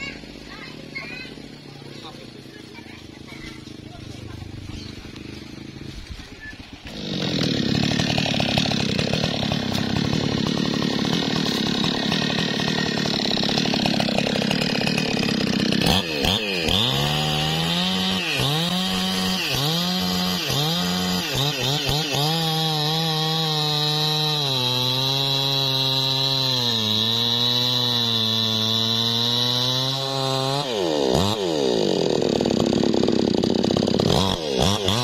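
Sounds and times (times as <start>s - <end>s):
chainsaw cutting tree trunk: 0.0s - 35.0s.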